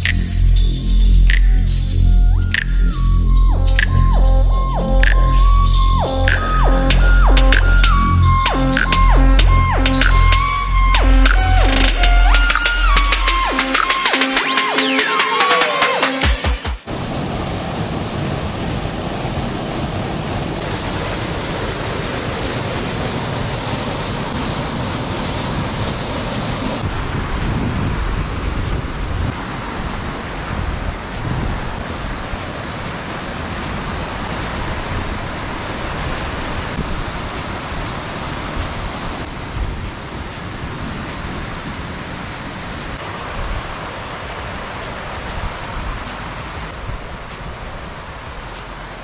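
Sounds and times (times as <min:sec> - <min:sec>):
waterfall and rocky stream rushing: 0:00.0 - 0:49.0.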